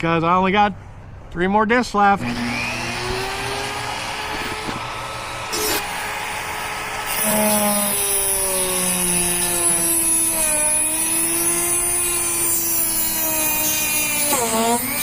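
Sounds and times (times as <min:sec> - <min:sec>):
rotary tool grinding metal: 0:02.3 - 0:15.0.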